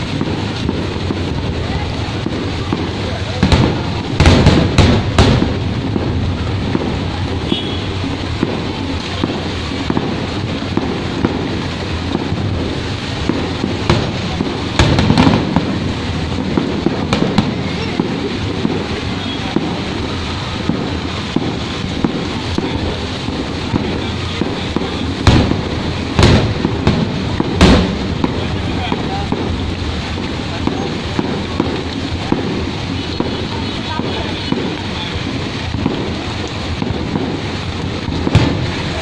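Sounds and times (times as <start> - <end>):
fireworks crackling and popping: 0.0 - 39.0
loud firework bangs: 0.0 - 39.0.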